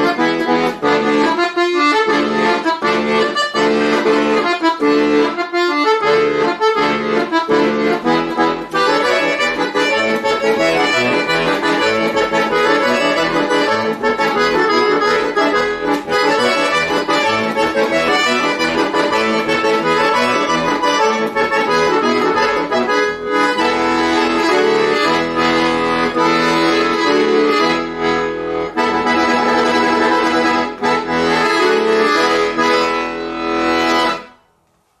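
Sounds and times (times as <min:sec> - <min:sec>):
button accordion playing: 0:00.0 - 0:34.4.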